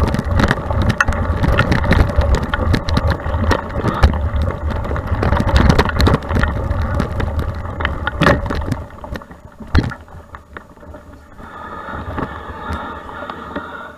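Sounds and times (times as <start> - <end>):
bike rattles and knocks: 0.0 - 11.3
wind and tyre rumble: 0.0 - 13.9.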